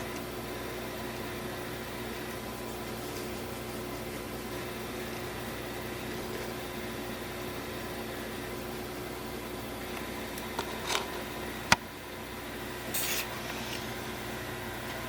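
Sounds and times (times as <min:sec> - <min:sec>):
appliance hum and hiss: 0:00.0 - 0:15.0.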